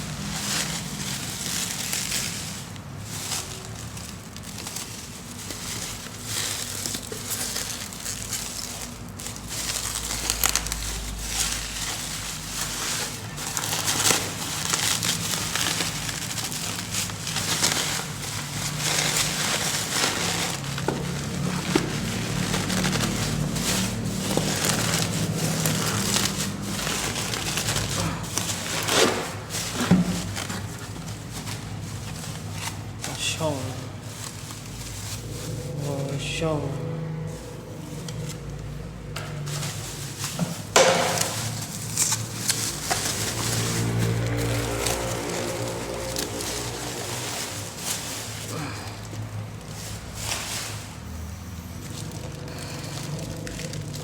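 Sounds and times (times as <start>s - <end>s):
plastic wrapping crinkling: 0.0s - 54.0s.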